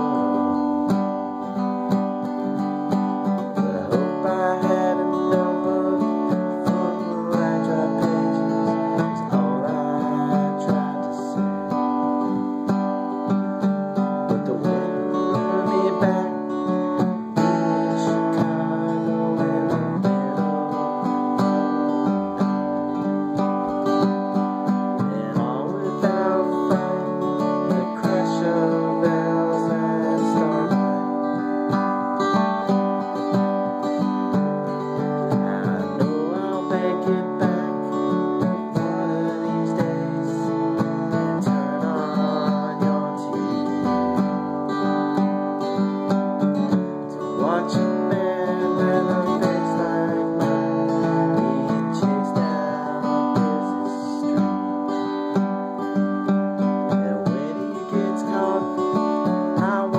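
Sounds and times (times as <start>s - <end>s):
acoustic guitar strumming: 0.0s - 59.9s.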